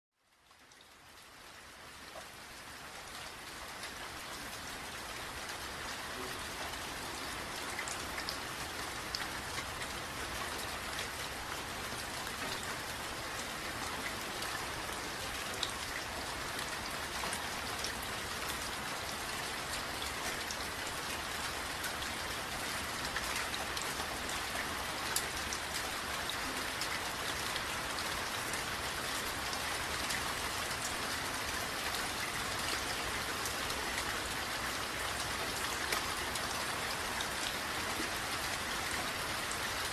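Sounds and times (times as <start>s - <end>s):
steady rain falling: 0.1s - 39.9s.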